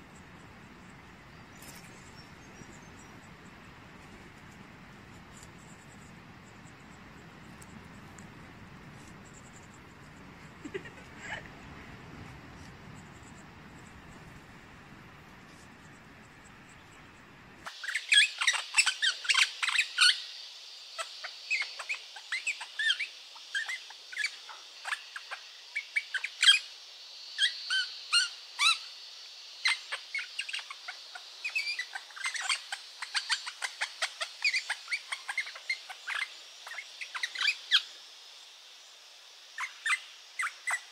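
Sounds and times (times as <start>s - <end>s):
birds chirping: 0.0s - 26.7s, 29.6s - 38.1s, 39.6s - 40.9s
faint steady hiss: 0.0s - 40.9s.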